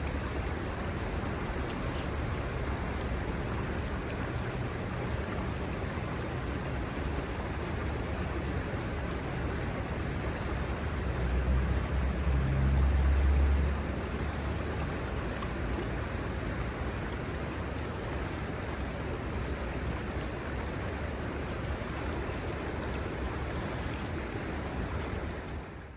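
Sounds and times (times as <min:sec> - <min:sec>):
river water flowing over shallows: 0:00.0 - 0:25.9.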